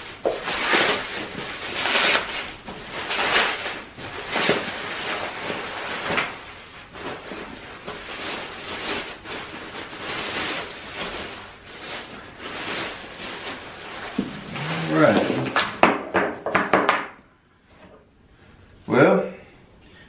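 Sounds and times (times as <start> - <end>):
plastic wrap crinkling: 0.0 - 16.6.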